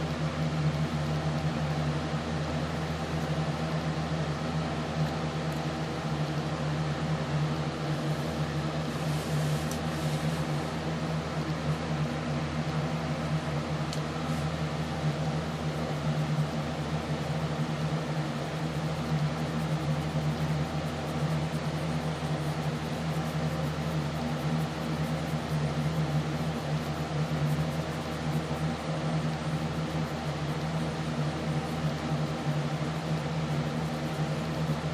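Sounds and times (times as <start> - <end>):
mechanical hum: 0.0 - 34.9.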